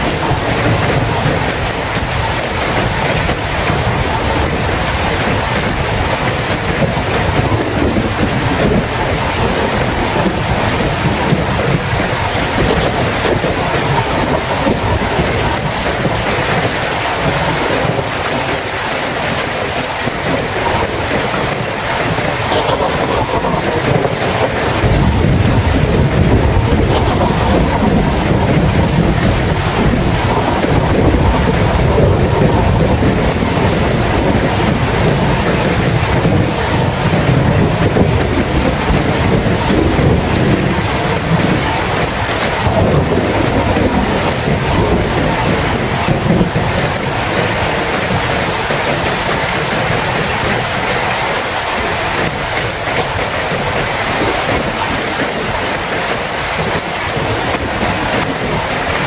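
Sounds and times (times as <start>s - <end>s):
low rumble of thunder: 0.0s - 50.9s
steady rain: 0.0s - 59.0s.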